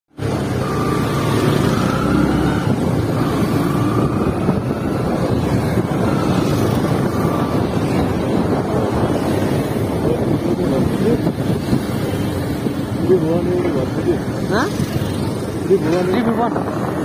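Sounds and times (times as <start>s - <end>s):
vehicle road rumble: 0.1s - 17.0s
wind on microphone: 0.2s - 17.0s.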